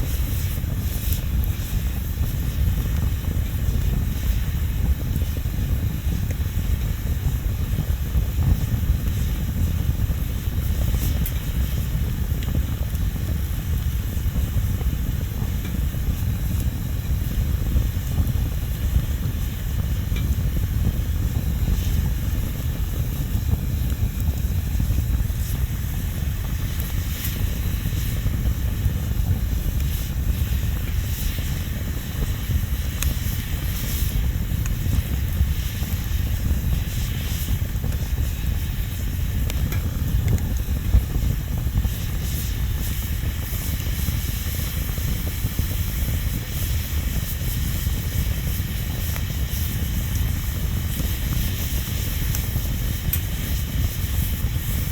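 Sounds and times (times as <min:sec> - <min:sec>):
bonfire low rumble: 0:00.0 - 0:54.9
fire crackles and pops: 0:00.0 - 0:54.9.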